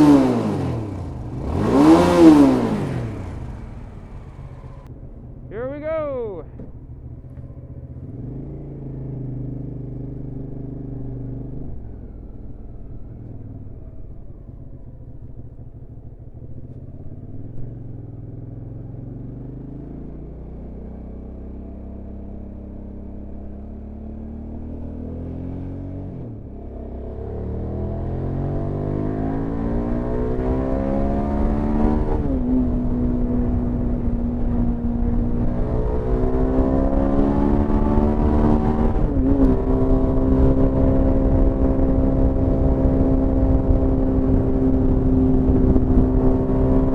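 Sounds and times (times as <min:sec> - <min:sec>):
motorcycle engine running: 0:00.0 - 0:25.2, 0:26.2 - 0:46.9.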